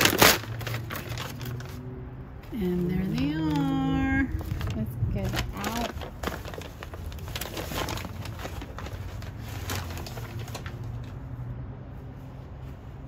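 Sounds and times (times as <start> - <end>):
paper bag rustling: 0.0 - 11.4.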